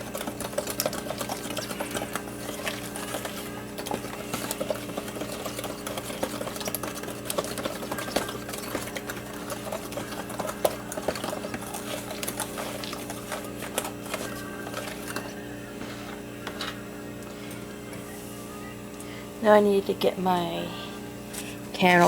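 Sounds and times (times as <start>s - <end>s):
electric hand mixer running: 0.0s - 17.9s.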